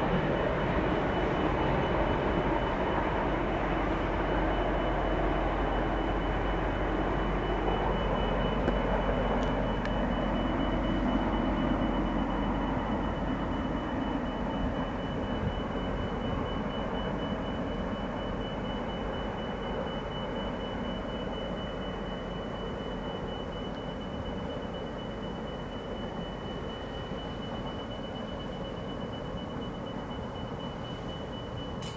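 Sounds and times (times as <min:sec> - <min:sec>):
freight train rumbling: 0:00.0 - 0:31.9.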